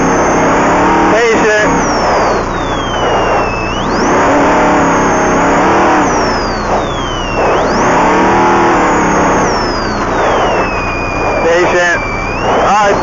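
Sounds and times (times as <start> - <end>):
high whine: 0.0 - 13.0
truck engine revving: 0.0 - 13.0.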